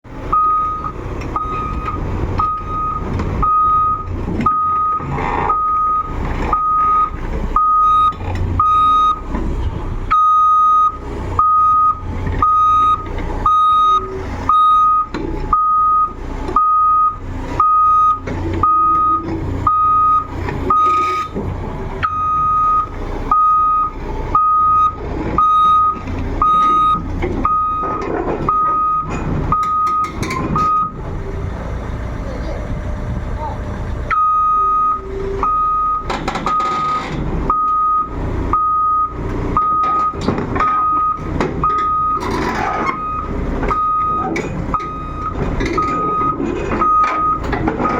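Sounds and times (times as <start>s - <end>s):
diesel engine running: 0.0s - 47.9s
reversing alarm beeping: 0.3s - 9.2s, 10.1s - 21.4s, 22.0s - 32.2s, 33.9s - 47.9s.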